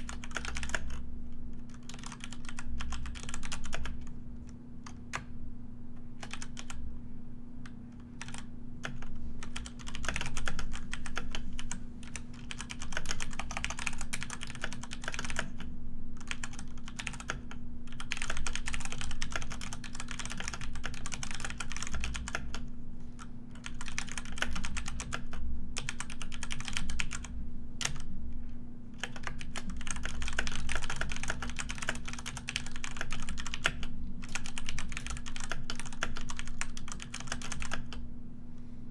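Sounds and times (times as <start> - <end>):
keyboard typing: 0.0 - 1.0, 1.7 - 4.1, 6.2 - 6.8, 7.6 - 15.6, 16.2 - 22.6, 23.6 - 28.1, 29.0 - 38.0
faint low hum: 0.0 - 38.9.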